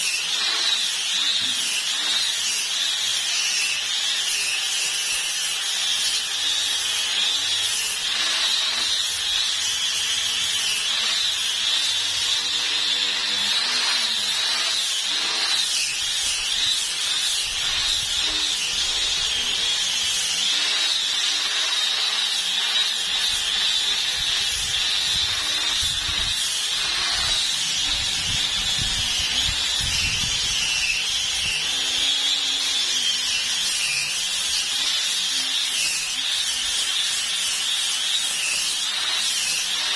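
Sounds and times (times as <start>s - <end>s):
electric sander whining on wood: 0.0s - 39.9s.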